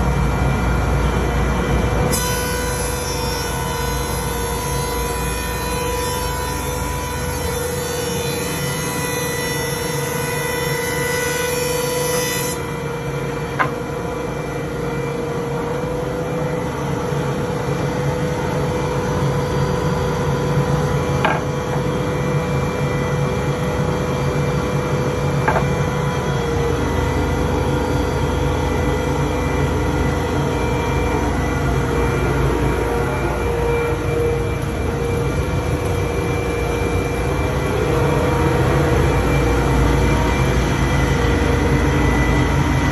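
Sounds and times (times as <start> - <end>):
thickness planer humming: 0.0 - 42.9.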